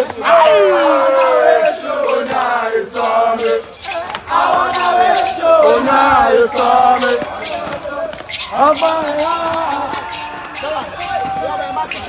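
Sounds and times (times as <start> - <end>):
men chanting and singing: 0.0 - 12.0
sharp percussive hits: 1.1 - 12.0.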